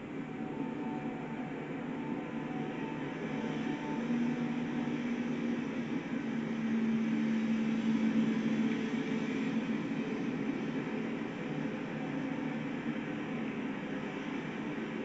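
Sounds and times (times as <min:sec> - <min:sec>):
freight train rumble and hiss: 0:00.0 - 0:15.0.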